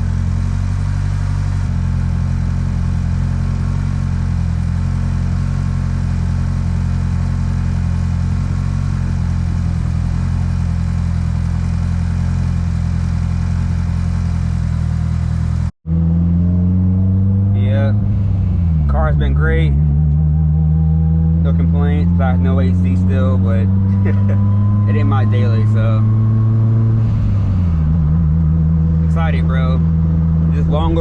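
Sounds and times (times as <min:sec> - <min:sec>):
car engine cruising drone: 0:00.0 - 0:31.0.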